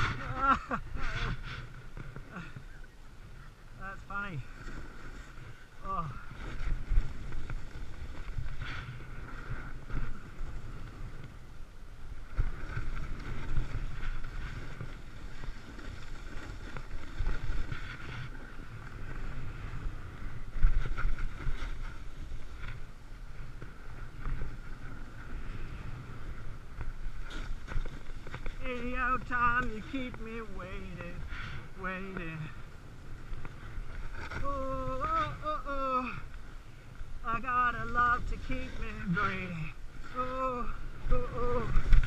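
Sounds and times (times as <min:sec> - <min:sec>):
snowboard scraping over snow: 0:00.0 - 0:42.0.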